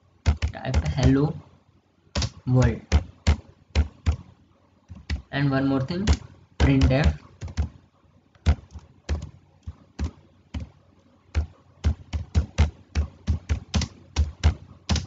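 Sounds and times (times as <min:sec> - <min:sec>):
computer keyboard typing: 0:00.2 - 0:01.4, 0:02.1 - 0:07.8, 0:08.4 - 0:15.0.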